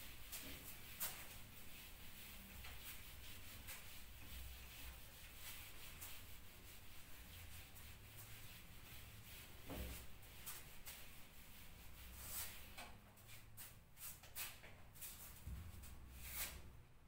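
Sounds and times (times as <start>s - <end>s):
hand wiping whiteboard: 0.0s - 16.7s.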